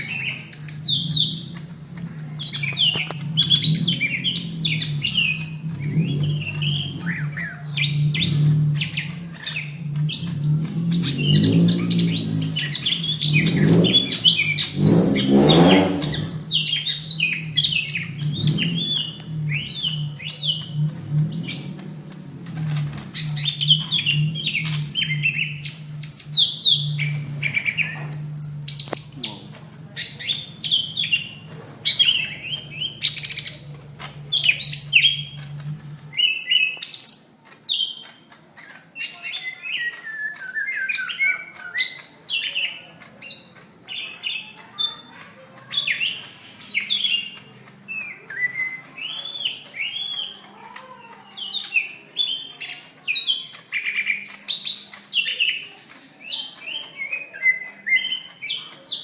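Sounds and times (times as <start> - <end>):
bird singing fast chirps: 0.0 - 59.0.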